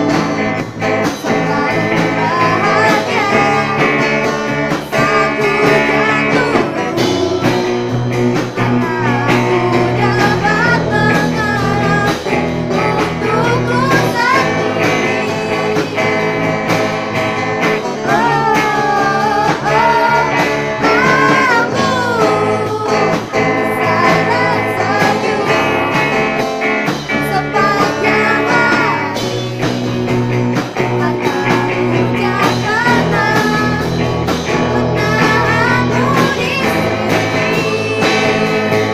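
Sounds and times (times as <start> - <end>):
girls singing: 0.0 - 16.9, 17.6 - 38.9
bass guitar: 0.0 - 38.9
drums: 0.0 - 38.9
electric guitars: 0.0 - 38.9.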